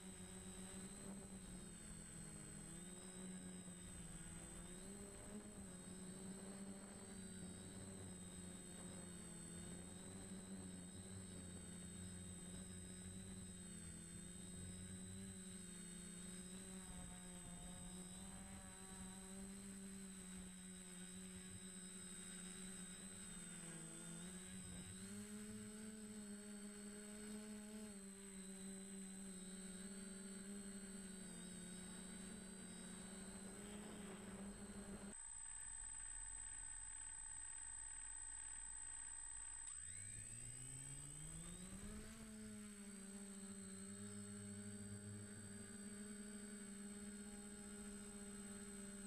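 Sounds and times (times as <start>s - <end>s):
drone motors humming: 0.0s - 49.0s.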